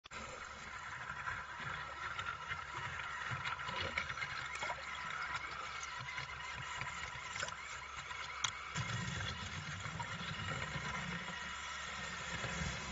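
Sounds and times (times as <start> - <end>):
underwater brush whirring: 0.0 - 12.9
gurgling water: 0.1 - 12.9.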